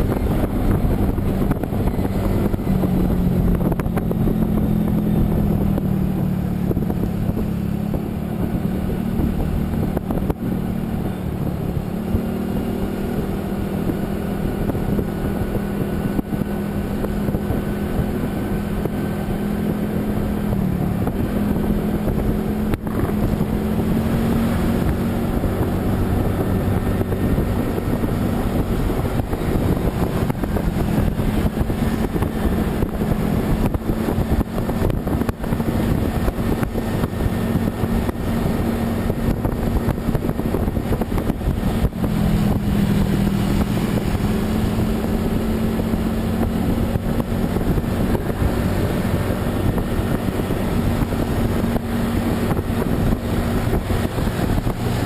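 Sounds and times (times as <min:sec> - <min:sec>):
road and wind noise: 0:00.0 - 0:55.0
vehicle engine hum: 0:00.0 - 0:55.0.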